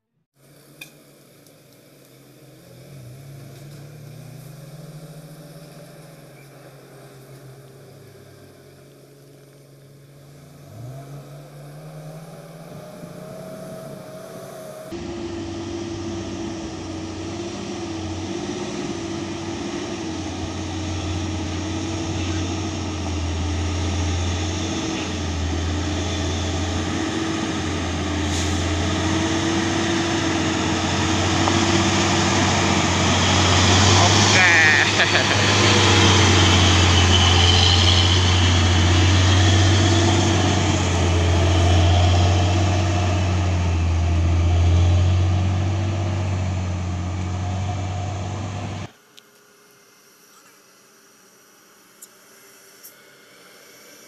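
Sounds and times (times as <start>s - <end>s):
truck diesel engine running: 1.9s - 48.9s.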